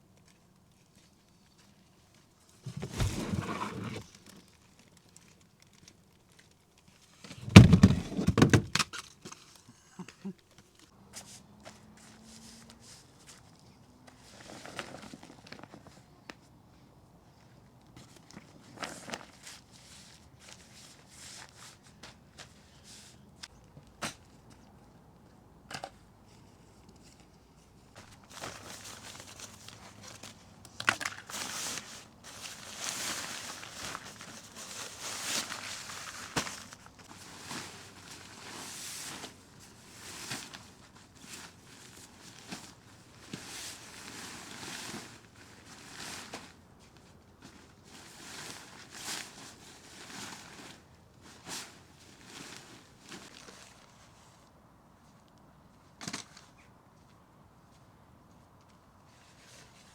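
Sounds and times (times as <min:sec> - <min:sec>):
rustling and crinkling: 0:00.1 - 0:16.5, 0:17.3 - 0:25.0, 0:25.8 - 0:59.9.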